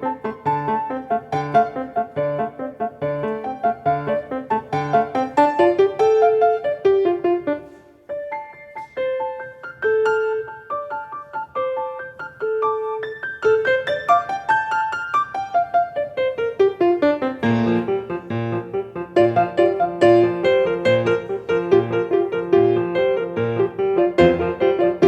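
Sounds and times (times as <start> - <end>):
piano melody: 0.0 - 25.0.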